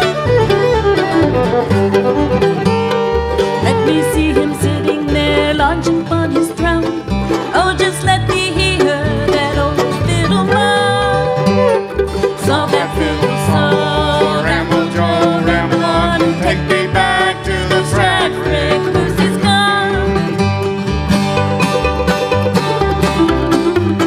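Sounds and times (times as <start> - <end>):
banjo picking: 0.0 - 24.0
guitar: 0.0 - 24.0
sliding melody line: 0.0 - 24.0.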